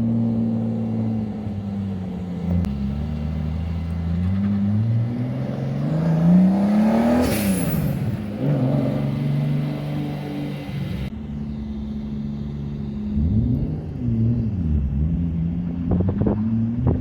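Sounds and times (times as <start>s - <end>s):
car engine revving: 0.0s - 11.1s, 12.0s - 17.0s.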